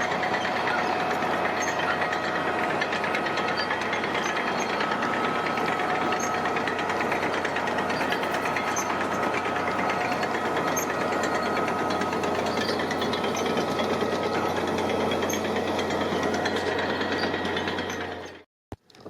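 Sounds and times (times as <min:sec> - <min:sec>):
diesel engine pulsing: 0:00.0 - 0:18.5.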